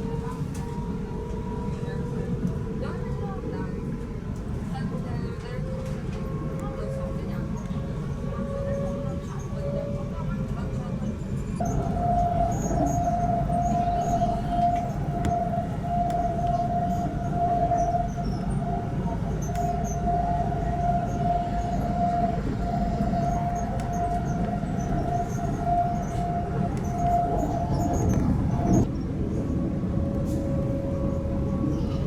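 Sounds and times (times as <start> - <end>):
train rumble: 0.0 - 32.0.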